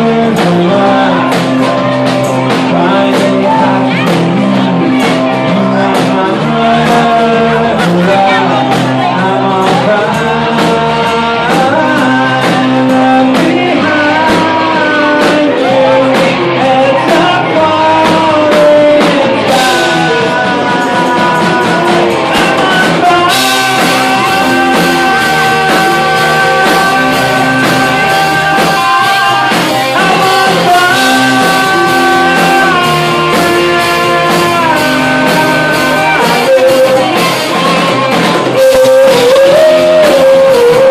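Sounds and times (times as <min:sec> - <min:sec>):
person singing: 0:00.0 - 0:40.9
rock band playing: 0:00.0 - 0:40.9.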